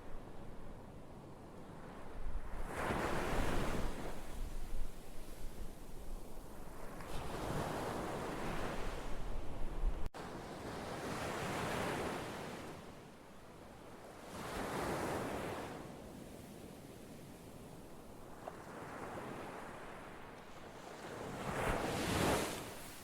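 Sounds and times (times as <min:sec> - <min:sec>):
waves washing in and out: 0:02.0 - 0:23.0.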